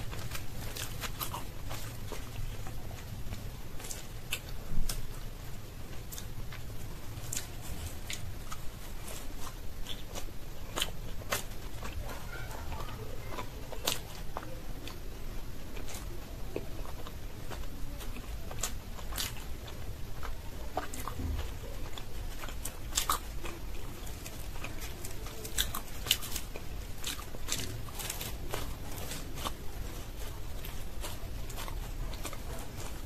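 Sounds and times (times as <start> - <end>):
chewing crunchy fried food: 0.0 - 33.0
crackling clicks of fried dough: 0.0 - 33.0.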